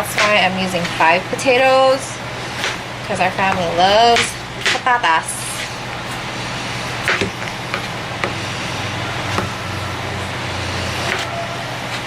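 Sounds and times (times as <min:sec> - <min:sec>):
steady hiss and low hum: 0:00.0 - 0:12.0.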